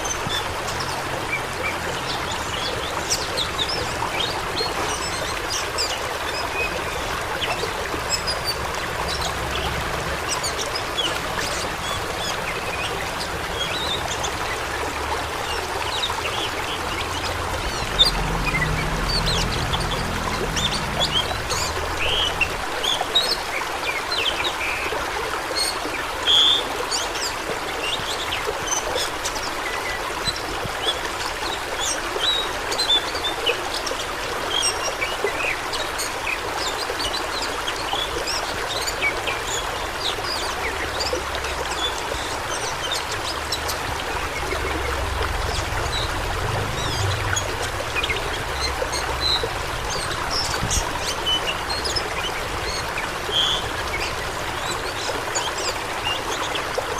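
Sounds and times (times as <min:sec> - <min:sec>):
stream water rushing: 0:00.0 - 0:56.9
water plinks and splashes: 0:00.0 - 0:56.9.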